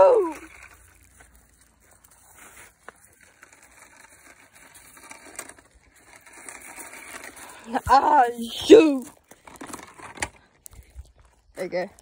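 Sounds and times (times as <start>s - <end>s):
crunching on gravel: 0.0s - 12.0s.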